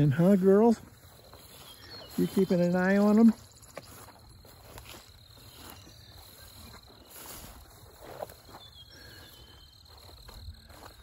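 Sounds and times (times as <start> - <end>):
footsteps through tall grass: 0.0 - 11.0
high insect drone: 0.0 - 11.0.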